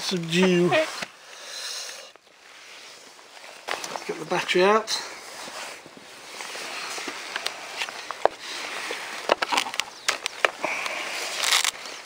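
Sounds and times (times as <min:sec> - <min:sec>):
hands rustling and scraping: 0:02.2 - 0:12.0.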